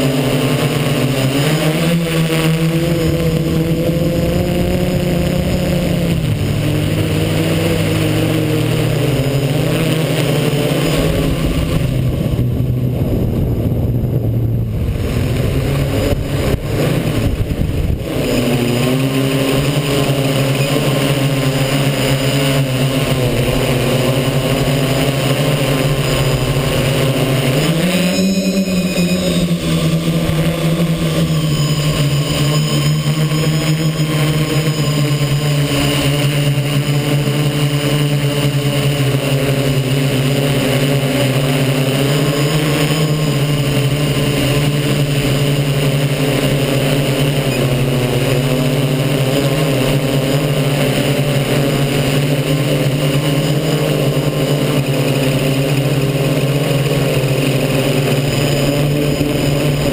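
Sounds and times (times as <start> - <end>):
drone motors buzzing: 0.0 - 59.9.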